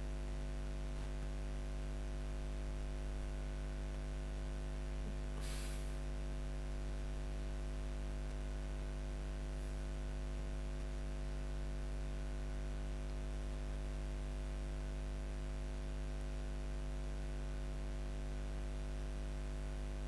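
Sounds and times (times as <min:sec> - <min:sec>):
electrical hum with fixed tones: 0:00.0 - 0:20.0
static hiss: 0:00.0 - 0:20.0.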